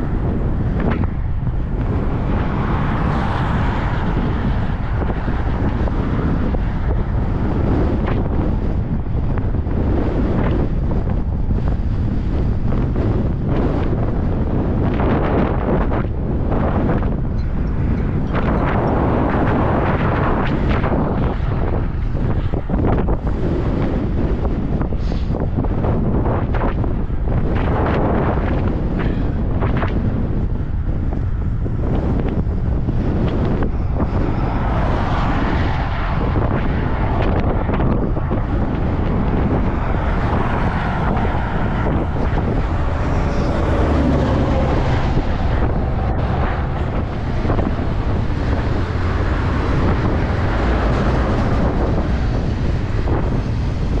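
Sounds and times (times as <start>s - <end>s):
car passing on highway: 0.0s - 54.0s
wind buffeting microphone: 0.0s - 54.0s.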